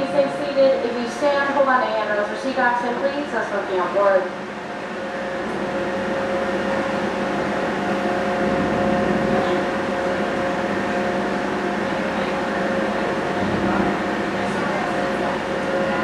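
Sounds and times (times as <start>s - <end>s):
ferry engine droning: 0.0s - 16.0s.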